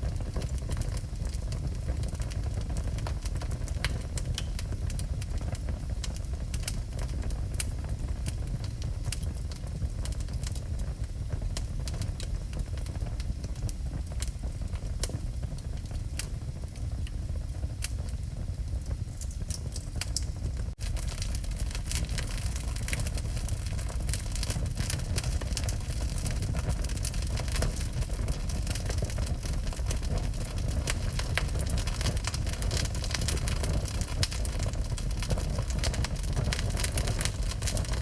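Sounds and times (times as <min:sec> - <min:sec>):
burning wood crackling: 0:00.0 - 0:38.0
fire flames rumbling: 0:00.0 - 0:38.0.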